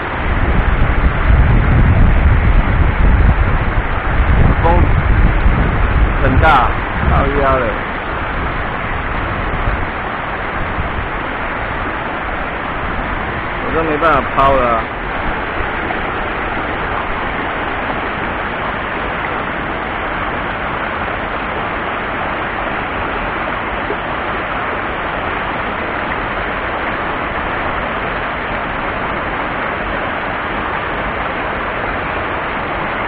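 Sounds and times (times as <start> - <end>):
whitewater rushing over boulders: 0.0 - 33.0.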